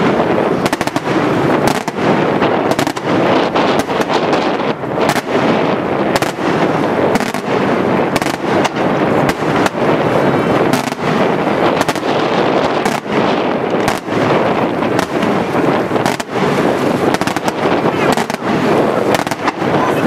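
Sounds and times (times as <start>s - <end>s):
fireworks crackling rattle: 0.0s - 20.0s
fireworks sharp bangs: 0.0s - 20.0s.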